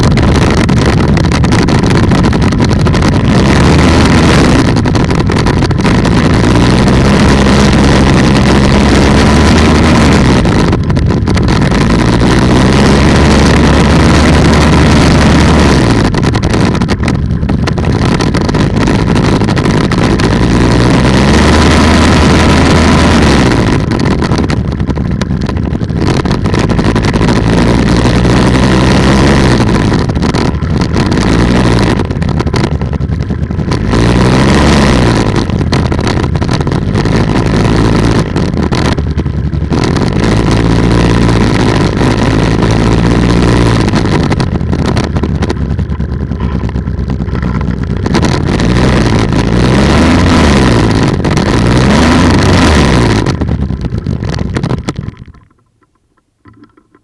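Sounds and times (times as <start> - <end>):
two-stroke engine running: 0.0 - 57.0
wind noise on microphone: 0.0 - 57.0.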